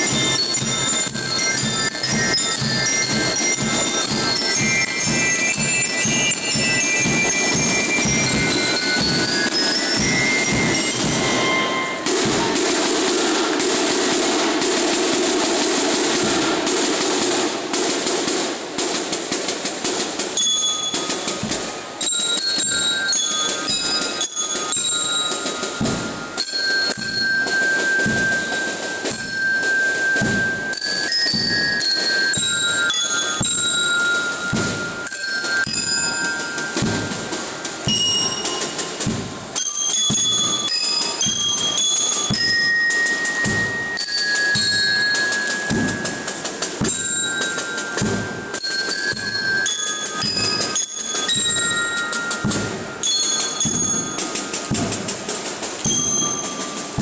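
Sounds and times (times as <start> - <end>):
bell lyre melody: 0.0 - 18.6, 19.2 - 57.0
snare and bass drumming: 0.0 - 57.0.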